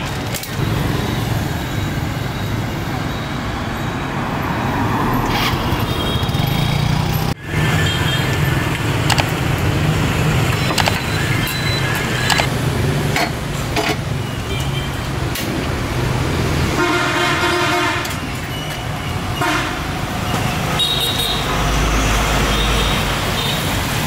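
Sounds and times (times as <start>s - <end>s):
motor traffic: 0.0s - 24.0s.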